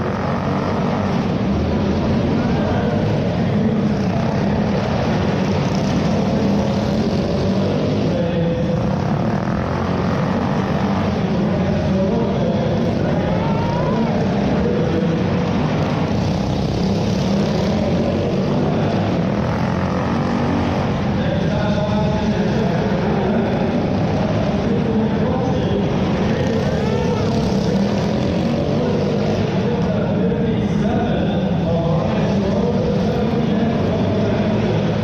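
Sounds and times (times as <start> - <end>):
minibike engine running: 0.0 - 35.0
minibike engines revving: 0.0 - 35.0.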